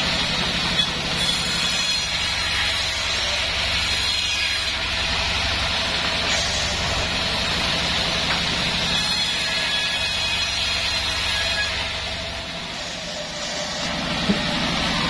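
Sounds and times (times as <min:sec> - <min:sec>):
sawmill drive droning: 0:00.0 - 0:15.0.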